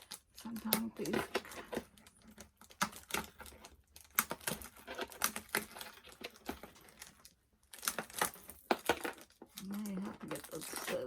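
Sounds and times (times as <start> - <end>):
small plastic rattles: 0.0 - 11.0.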